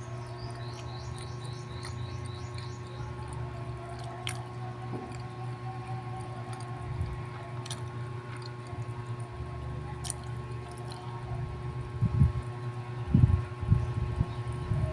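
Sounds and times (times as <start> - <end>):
chewing bread: 0.0 - 12.8
electrical hum: 0.0 - 14.9.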